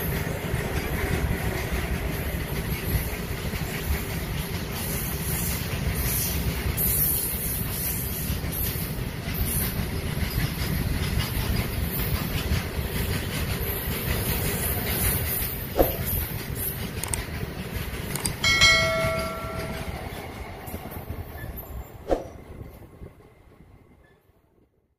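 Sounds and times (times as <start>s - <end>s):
freight train wheels rumbling on rail: 0.0s - 24.4s.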